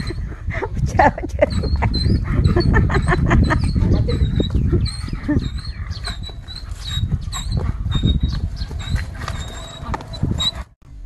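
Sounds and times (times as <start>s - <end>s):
dog barking and yelping: 1.4s - 10.7s.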